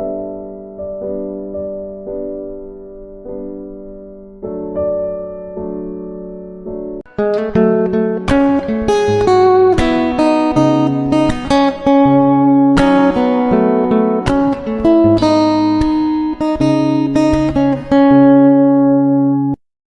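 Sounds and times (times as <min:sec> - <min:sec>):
acoustic guitar music: 0:00.0 - 0:19.6.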